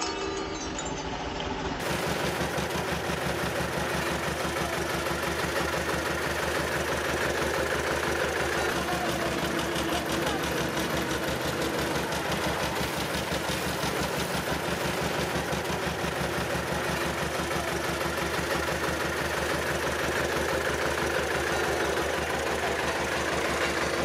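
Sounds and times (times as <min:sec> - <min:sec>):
diesel engine pulsing: 0:00.0 - 0:24.0.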